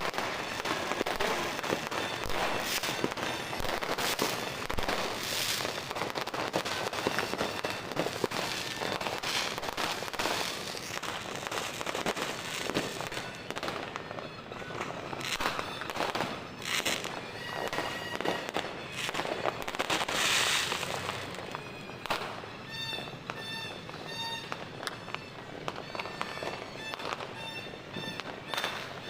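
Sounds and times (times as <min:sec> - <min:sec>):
fireworks popping and banging: 0:00.0 - 0:29.0.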